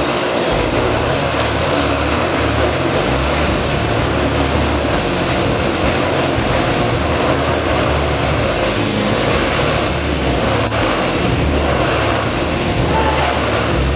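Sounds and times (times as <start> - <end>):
motorcycle engines running: 0.0 - 13.9.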